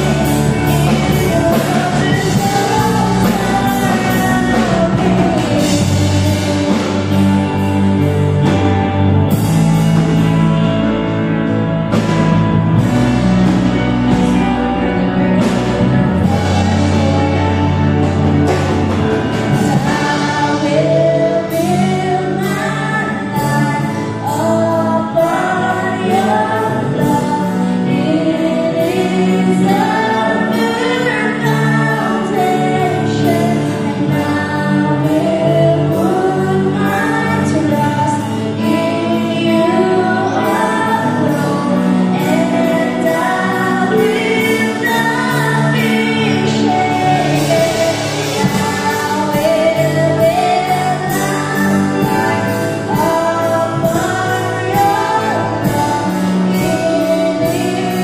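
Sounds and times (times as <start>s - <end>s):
woman singing: 0.0s - 9.5s, 12.8s - 58.0s
heavy bass line: 0.0s - 58.0s
live worship band: 0.0s - 58.0s.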